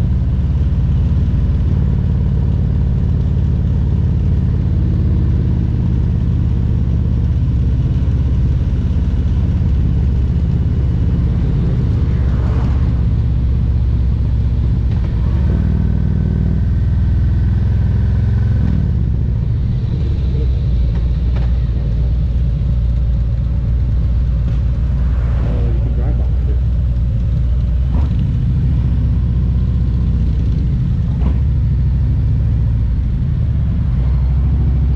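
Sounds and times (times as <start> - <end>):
motorcycle engine rumbling: 0.0 - 34.9.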